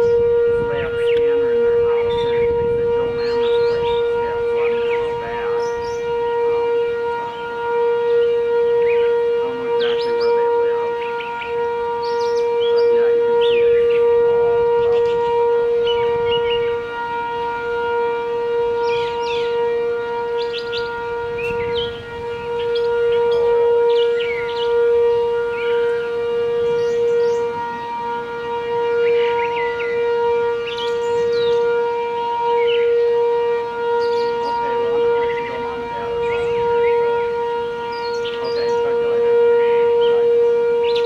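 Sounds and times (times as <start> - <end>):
tornado warning siren: 0.0 - 41.0.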